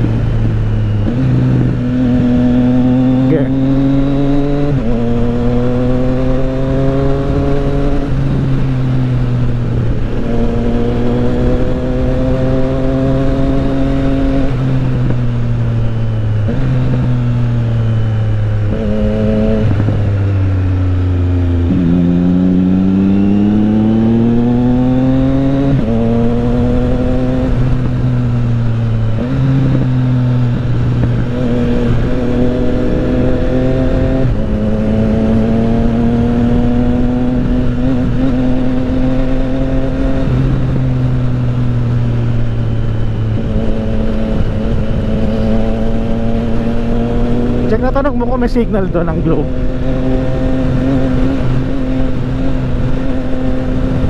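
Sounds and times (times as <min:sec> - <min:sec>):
motorcycle engine while riding: 0:00.0 - 0:54.0
wind rush: 0:00.0 - 0:54.0.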